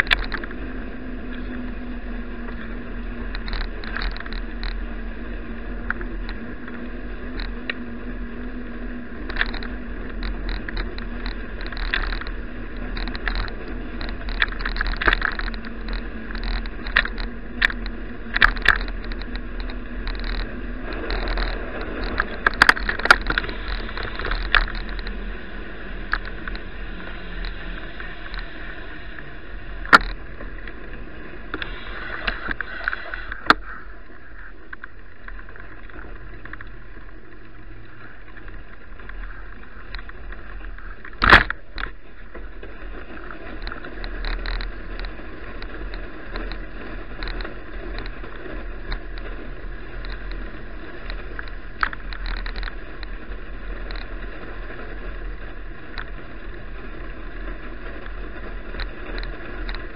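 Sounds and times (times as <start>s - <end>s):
bicycle riding noise: 0.0s - 59.9s.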